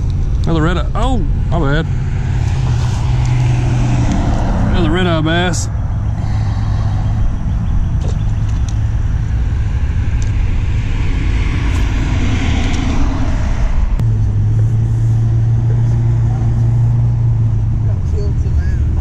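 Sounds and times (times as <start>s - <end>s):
low hum: 0.0s - 19.0s
low traffic rumble: 0.0s - 19.0s
car passing by: 1.5s - 19.0s.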